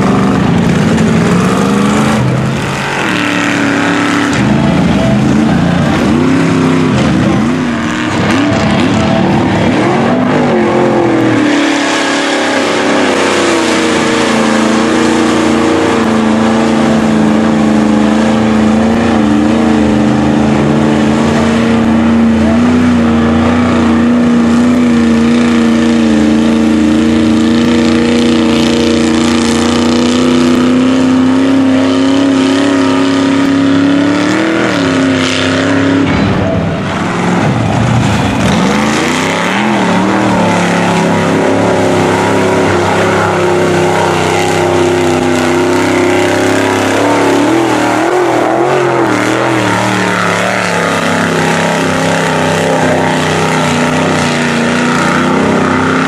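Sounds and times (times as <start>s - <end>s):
truck churning through mud: 0.0s - 56.0s
truck engine revving: 0.0s - 56.0s.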